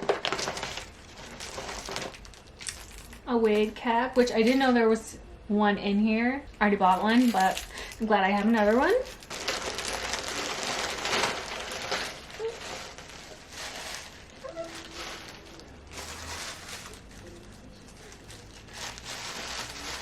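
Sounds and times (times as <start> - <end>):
packaging rustling and crinkling: 0.0 - 4.8, 6.9 - 20.0.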